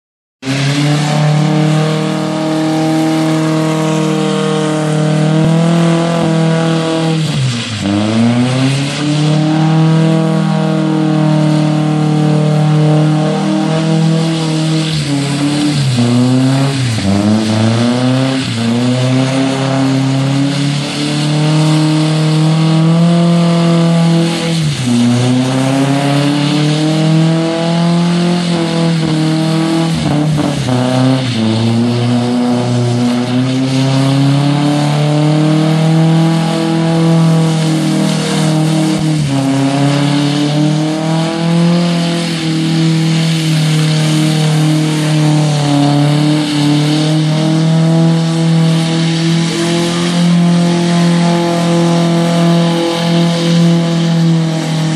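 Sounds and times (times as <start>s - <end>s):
tires spinning on wet pavement: 0.4s - 54.9s
truck engine revving: 0.4s - 54.9s.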